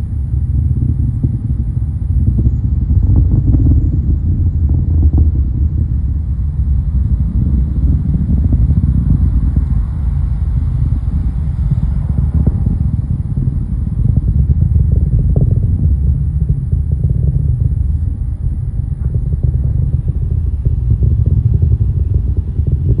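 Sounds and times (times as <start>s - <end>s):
rocket engines rumbling and crackling: 0.0s - 23.0s.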